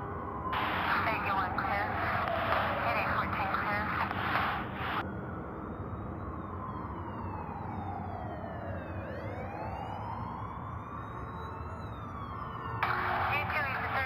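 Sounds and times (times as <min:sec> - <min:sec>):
police siren wailing: 0:00.0 - 0:14.0.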